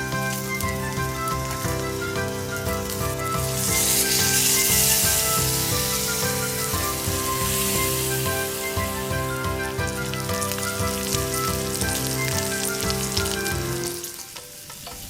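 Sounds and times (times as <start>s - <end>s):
background music with held notes: 0.0s - 15.0s
steak sizzling over campfire: 0.0s - 15.0s.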